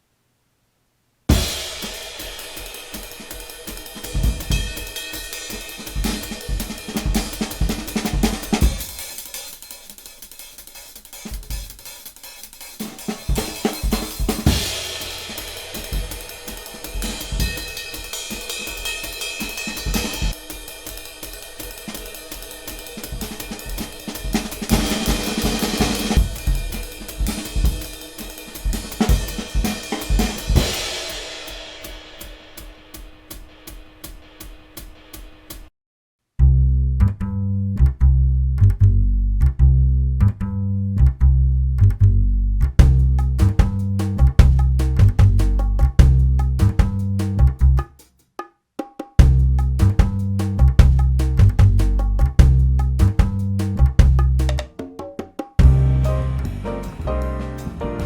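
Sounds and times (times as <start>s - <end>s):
jazz music with drum kit: 1.3s - 35.7s, 42.8s - 48.0s, 49.2s - 58.0s.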